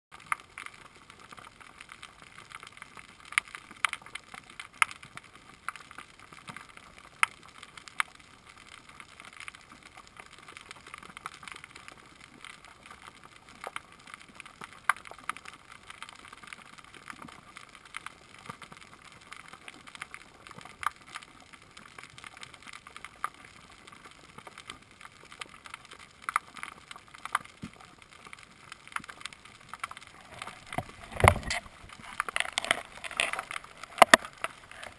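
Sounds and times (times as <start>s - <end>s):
crackle of clicks and snaps: 0.1s - 34.9s.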